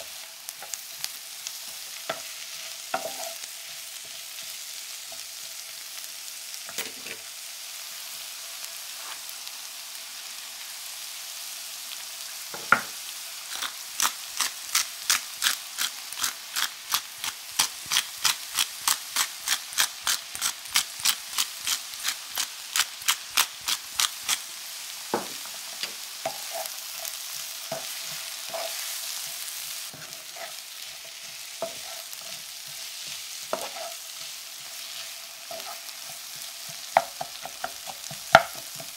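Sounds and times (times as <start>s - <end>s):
vegetables sizzling in a pan: 0.0s - 38.9s.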